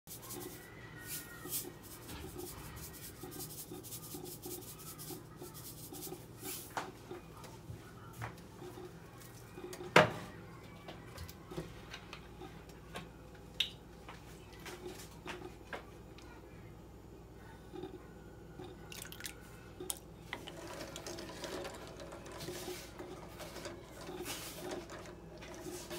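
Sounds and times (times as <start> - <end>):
low room hum: 0.1 - 25.9.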